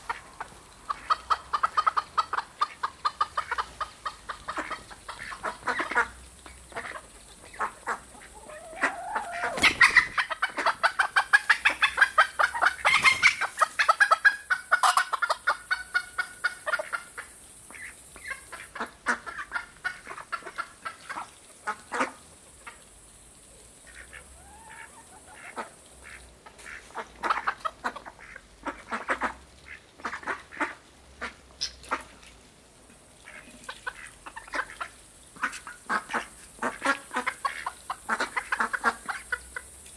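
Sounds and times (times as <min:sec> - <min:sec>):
ducks quacking and chattering: 0:00.0 - 0:22.8, 0:23.8 - 0:32.3, 0:33.2 - 0:39.7.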